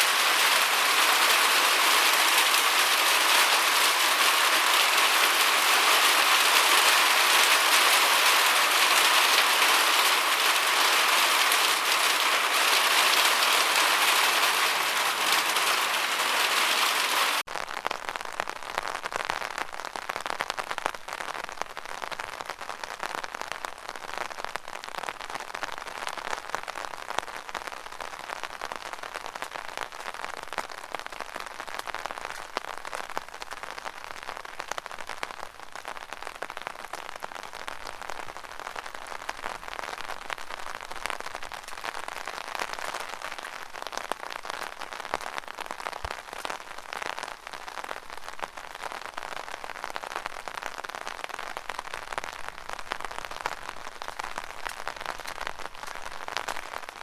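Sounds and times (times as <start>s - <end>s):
rainwater rushing in a gutter: 0.0s - 17.5s, 27.6s - 57.0s.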